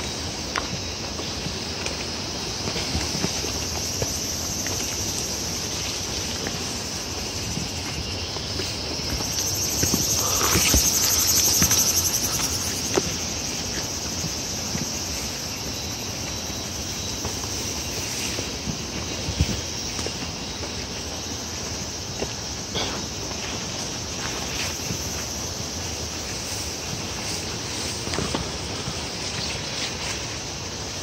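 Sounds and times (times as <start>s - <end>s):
footsteps in undergrowth: 0.0s - 31.0s
high-pitched insect chorus: 0.0s - 31.0s
plants rustling: 0.6s - 21.0s, 26.1s - 31.0s.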